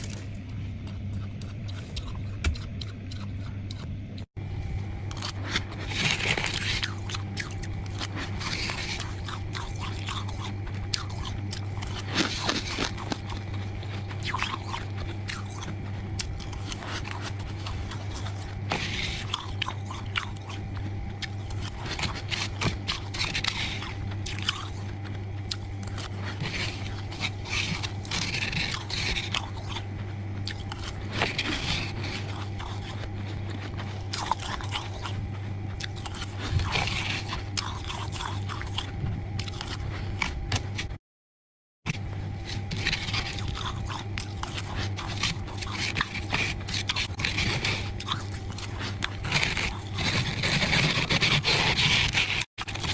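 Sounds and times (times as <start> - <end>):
frost being chewed crunching: 0.0 - 41.0, 41.9 - 52.9
low hum: 0.0 - 41.0, 41.9 - 52.9.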